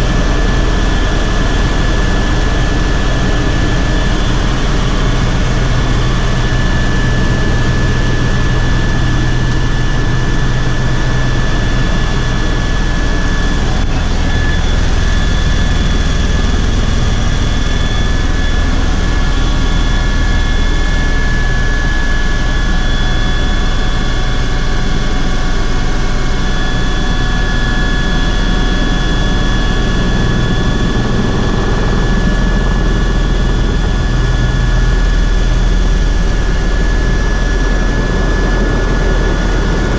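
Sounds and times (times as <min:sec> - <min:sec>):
helicopter rotor drone: 0:00.0 - 0:39.9
helicopter turbine whine: 0:00.0 - 0:39.9.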